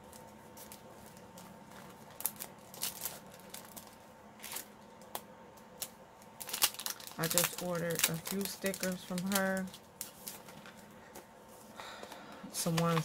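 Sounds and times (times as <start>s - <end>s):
envelope rustling and crinkling: 0.0s - 5.2s, 5.8s - 11.3s
sharp plastic crackles: 0.0s - 11.2s.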